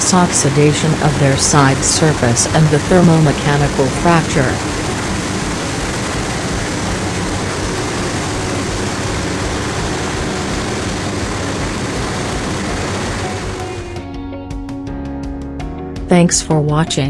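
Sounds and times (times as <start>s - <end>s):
loud industrial roar: 0.0s - 14.1s.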